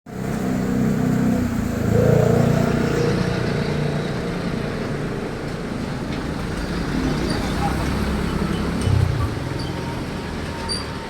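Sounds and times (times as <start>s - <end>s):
diesel engine running: 0.1s - 10.7s.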